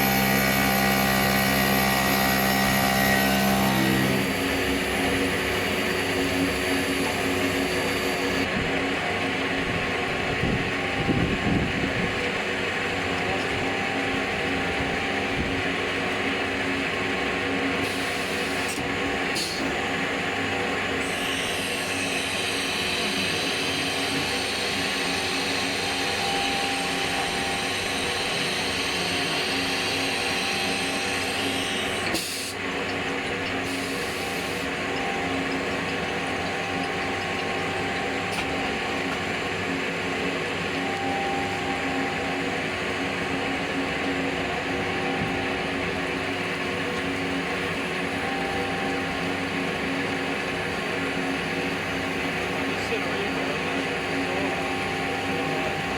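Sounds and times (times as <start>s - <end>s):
higher-pitched whine: 0.0s - 8.8s, 9.7s - 55.9s
router machine whine and grinding: 0.0s - 55.9s.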